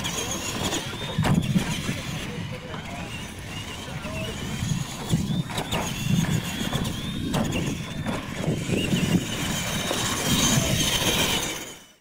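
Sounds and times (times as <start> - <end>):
toy truck motors whining: 0.0 - 12.0.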